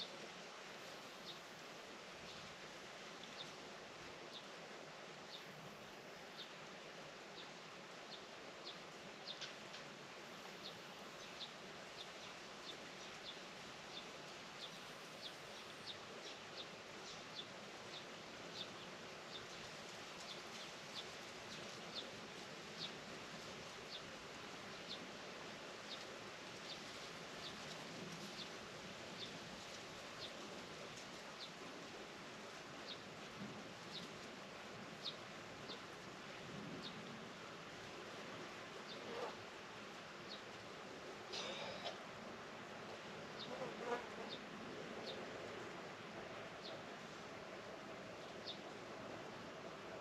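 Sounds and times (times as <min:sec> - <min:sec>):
faint outdoor hiss: 0:00.0 - 0:50.0.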